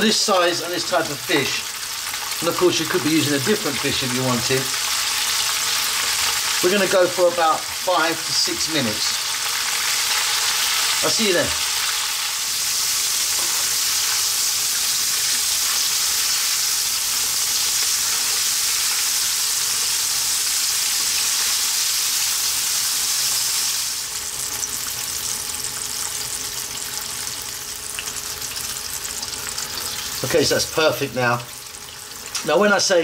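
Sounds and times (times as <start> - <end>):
fish deep-frying in oil: 0.0 - 33.0.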